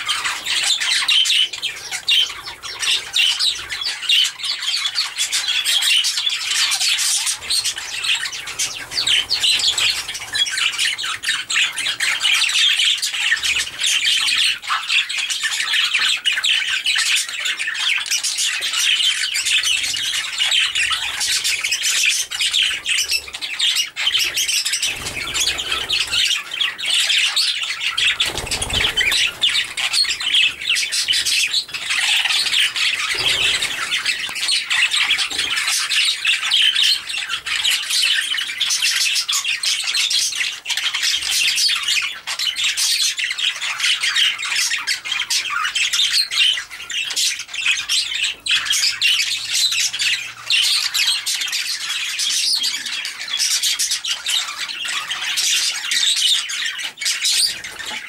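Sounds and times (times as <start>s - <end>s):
budgerigars chattering and squawking: 0.0s - 58.0s.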